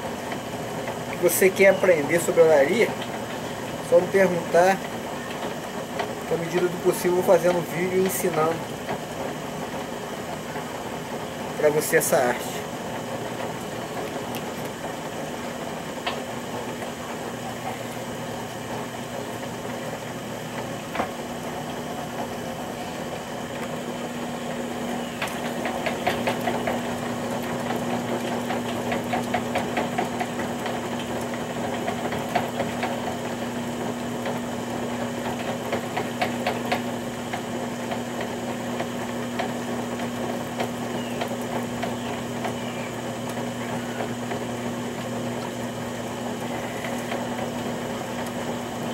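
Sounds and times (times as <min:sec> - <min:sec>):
potter's wheel motor hum: 0:00.0 - 0:48.9.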